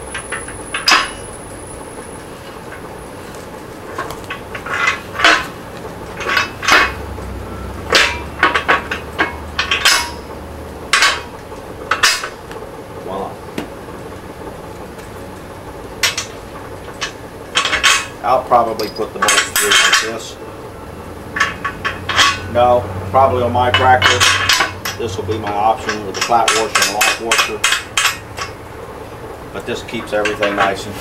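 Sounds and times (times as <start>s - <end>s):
metal wheel parts clanking: 0.0s - 13.4s, 16.0s - 20.4s, 21.3s - 28.7s, 29.5s - 31.0s.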